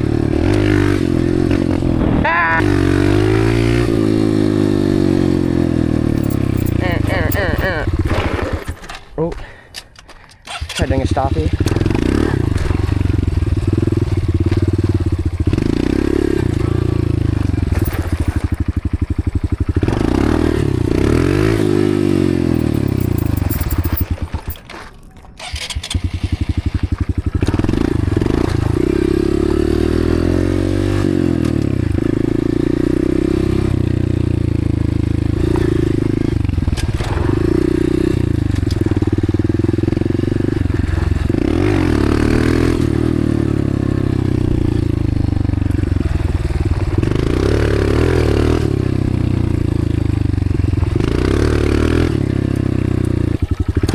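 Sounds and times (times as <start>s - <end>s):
dirt bike engine revving: 0.0s - 9.0s, 10.6s - 24.6s, 25.5s - 53.9s.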